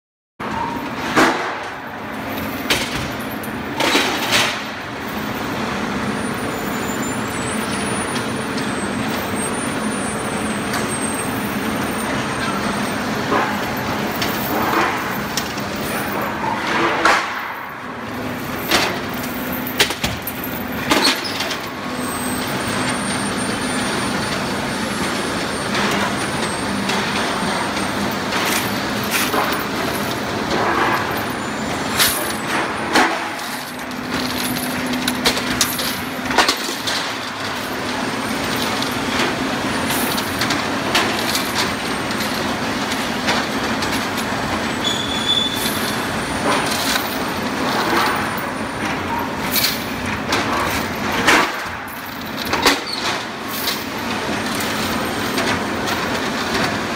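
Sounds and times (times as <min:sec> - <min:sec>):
metal clanks and bangs: 0:00.5 - 0:04.8, 0:11.8 - 0:22.5, 0:25.7 - 0:56.9.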